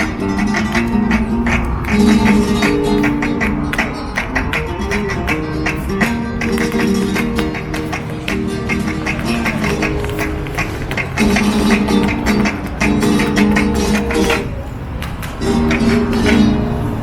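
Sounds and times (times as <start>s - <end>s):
instrumental folk music: 0.0s - 14.7s, 15.4s - 17.0s.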